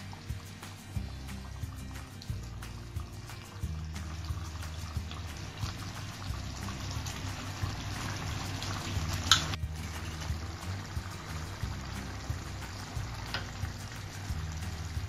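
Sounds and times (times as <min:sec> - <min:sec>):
background music with bass: 0:00.0 - 0:15.0
gravy bubbling in a wok: 0:00.0 - 0:15.0.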